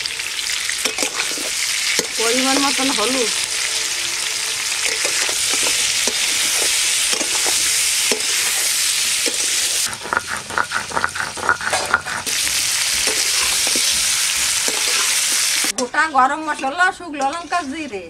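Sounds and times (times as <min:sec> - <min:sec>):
food sizzling in hot oil: 0:00.0 - 0:18.0
spatula scraping a pan: 0:00.8 - 0:15.8.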